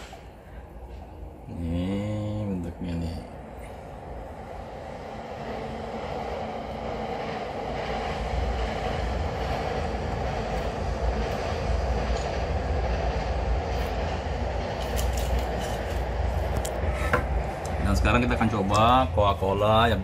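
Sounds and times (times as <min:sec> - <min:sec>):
low rumble with rushing hiss: 0:00.0 - 0:20.0.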